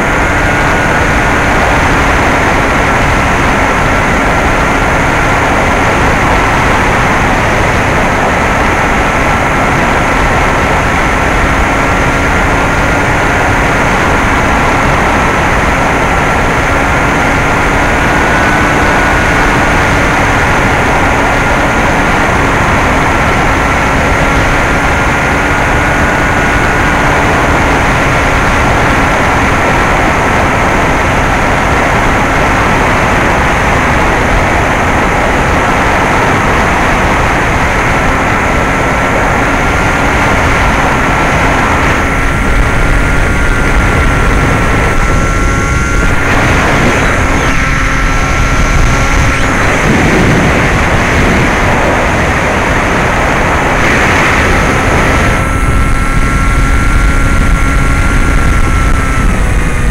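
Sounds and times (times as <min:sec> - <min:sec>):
electric motor whine: 0:00.0 - 0:59.9
wind rush on microphone: 0:00.0 - 0:59.9.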